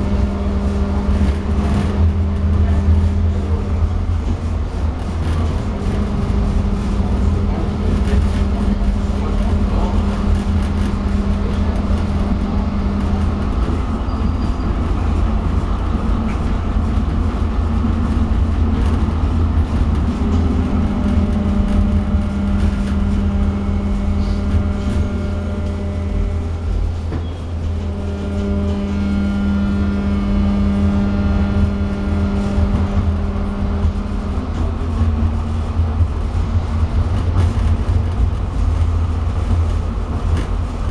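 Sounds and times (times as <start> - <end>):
traction motor humming: 0.0 - 40.9
tram wheels rumbling on track: 0.0 - 40.9.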